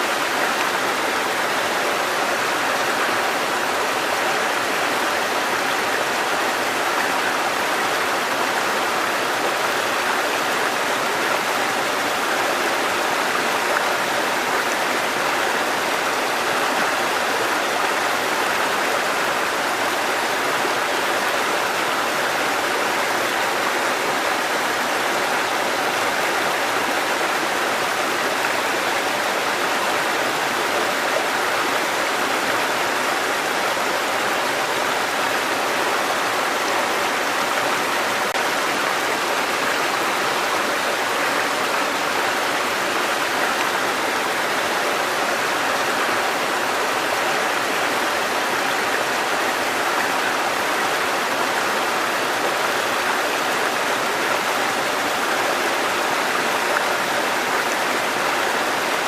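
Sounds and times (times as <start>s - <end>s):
water cascading over rocks: 0.0s - 59.0s.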